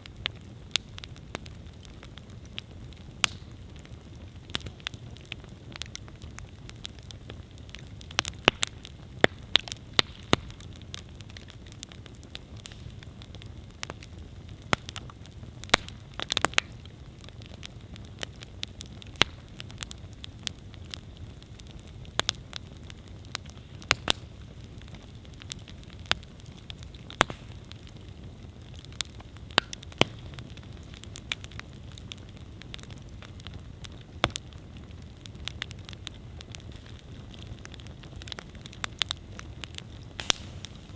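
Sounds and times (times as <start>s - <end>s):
burning wood cracking and popping: 0.0s - 40.9s
low rumble of flames: 0.0s - 40.9s.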